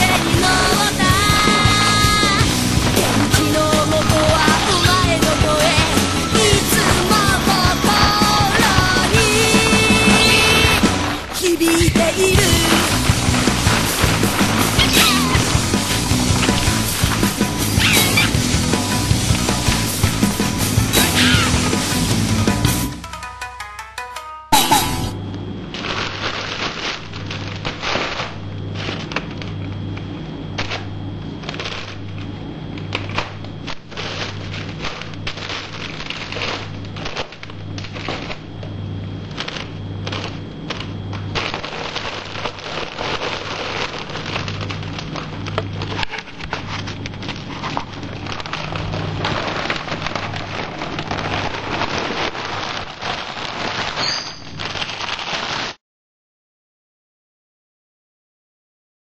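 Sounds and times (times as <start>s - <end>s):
plastic packaging crinkling: 0.0s - 18.5s, 25.4s - 55.8s.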